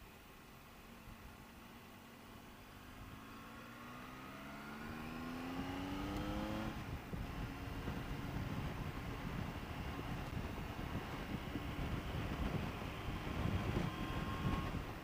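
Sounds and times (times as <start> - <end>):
wind and road noise: 0.0 - 15.0
motorcycle engine accelerating: 2.2 - 15.0.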